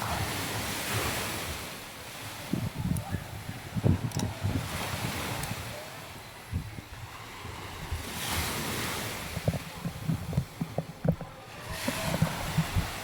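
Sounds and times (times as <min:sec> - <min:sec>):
surf washing onto beach: 0:00.0 - 0:13.0.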